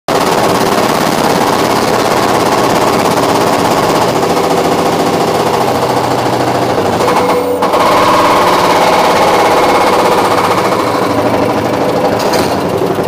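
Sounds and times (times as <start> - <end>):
hydraulic breaker hammering concrete: 0.1 - 13.0.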